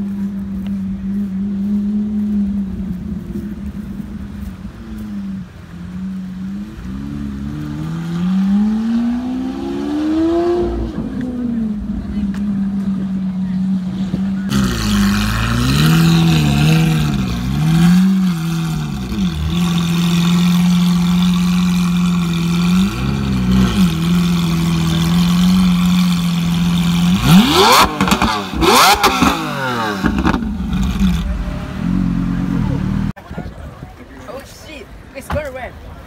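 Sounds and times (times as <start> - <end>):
car engine idling and revving: 0.0 - 33.2.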